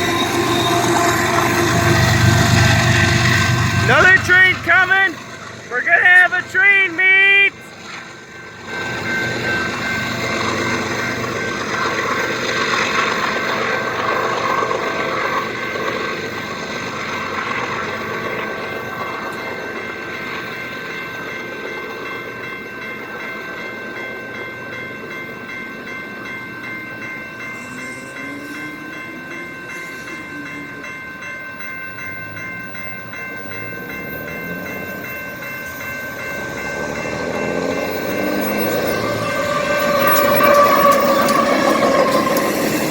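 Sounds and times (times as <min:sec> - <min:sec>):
freight train rumbling on rails: 0:00.0 - 0:42.9
high ringing tones: 0:00.0 - 0:42.9.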